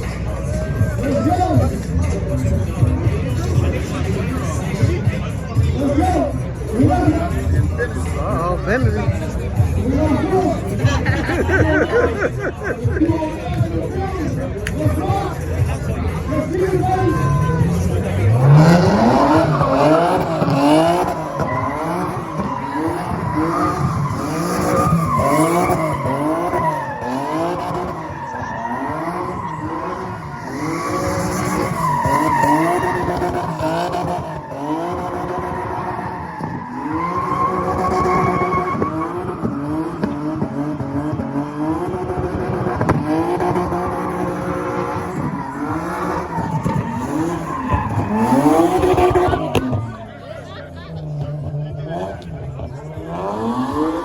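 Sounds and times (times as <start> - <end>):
car engine revving: 0.0 - 54.0
tires skidding and squealing: 0.0 - 54.0.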